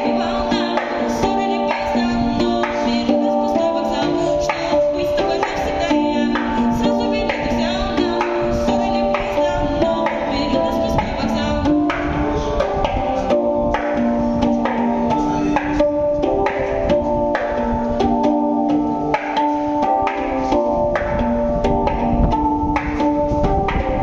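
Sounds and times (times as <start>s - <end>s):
handpan ringing notes: 0.0s - 24.0s.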